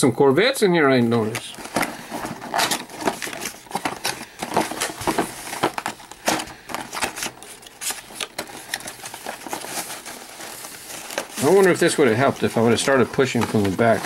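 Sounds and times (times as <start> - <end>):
cardboard and plastic packaging rustling: 0.7 - 14.0.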